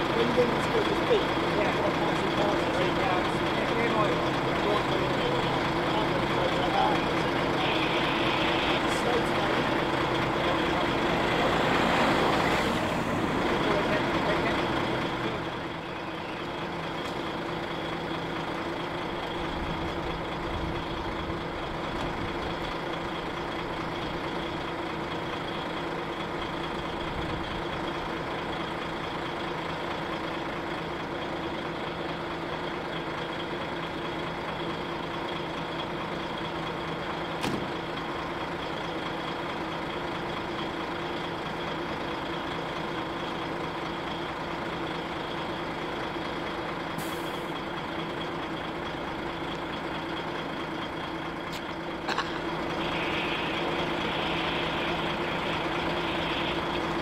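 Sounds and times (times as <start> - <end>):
truck diesel engines droning: 0.0 - 57.0.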